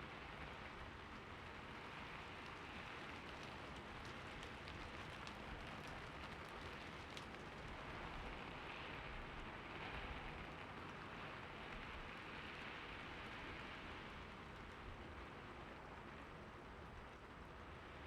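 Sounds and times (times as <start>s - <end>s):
raindrops ticking on a surface: 0.0s - 18.0s
steady rain hiss: 0.1s - 18.0s.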